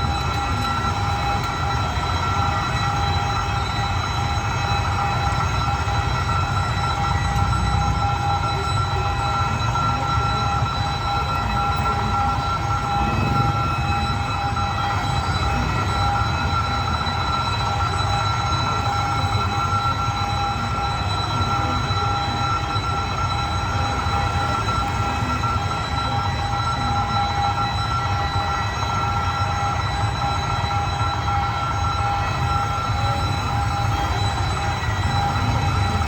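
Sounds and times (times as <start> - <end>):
high-pitched ringing tone: 0.0 - 36.0.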